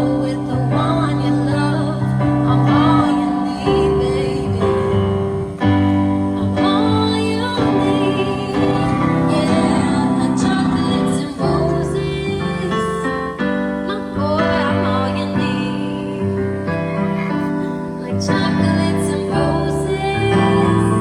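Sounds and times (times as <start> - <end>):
electronic keyboard chords: 0.0 - 21.0
person singing: 0.0 - 21.0.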